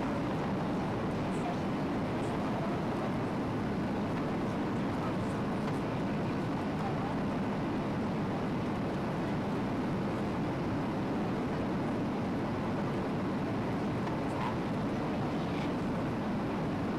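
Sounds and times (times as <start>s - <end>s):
jet engines droning: 0.0s - 16.9s.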